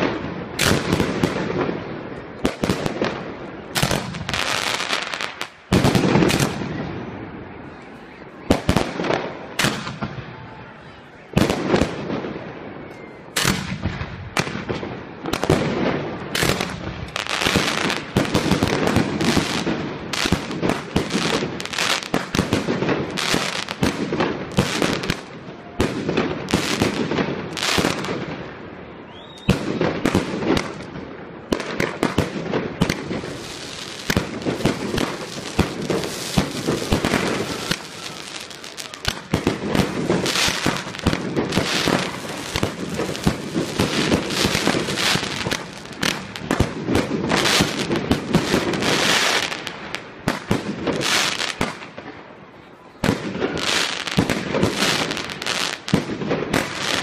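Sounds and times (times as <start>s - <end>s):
firework crackling: 0.0s - 7.8s, 8.4s - 10.6s, 11.3s - 57.0s.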